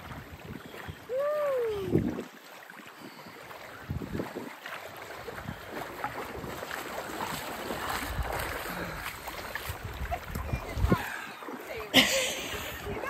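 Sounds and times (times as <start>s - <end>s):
wind on microphone: 0.0s - 2.4s, 3.0s - 11.4s, 12.5s - 13.0s
legs wading through water: 0.0s - 13.0s
small waves lapping: 0.0s - 13.0s.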